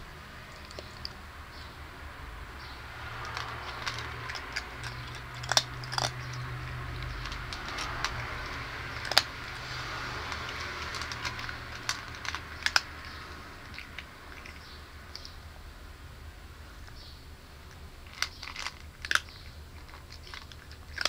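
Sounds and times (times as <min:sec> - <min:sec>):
cat crunching dry kibble: 0:00.3 - 0:01.3, 0:02.5 - 0:15.6, 0:16.6 - 0:21.0.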